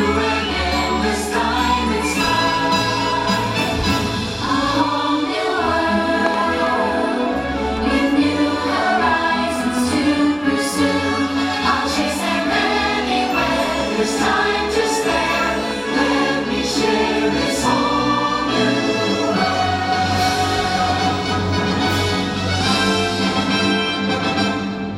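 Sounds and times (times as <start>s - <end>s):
choir singing: 0.0s - 23.6s
orchestral music: 0.0s - 24.9s.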